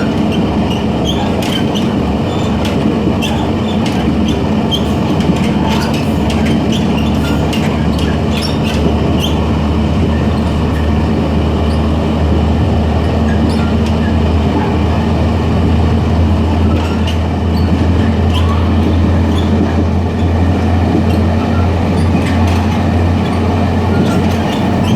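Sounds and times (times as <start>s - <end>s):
train low drone: 0.0s - 24.9s.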